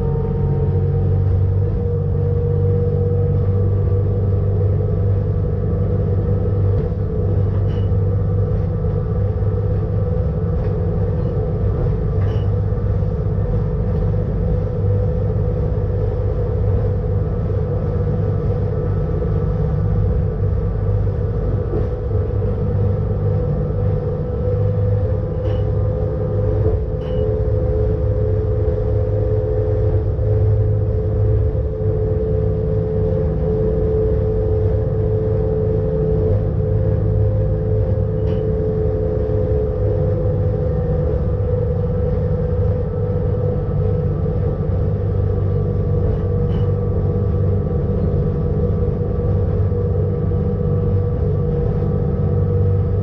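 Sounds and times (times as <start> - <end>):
electric train hum and whine: 0.0 - 53.0.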